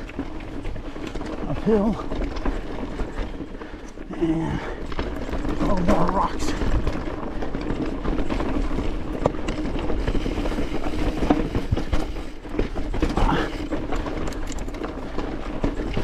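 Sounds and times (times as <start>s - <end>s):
bike clattering over rocks: 0.0s - 16.0s
tyres rumbling on trail: 0.0s - 16.0s.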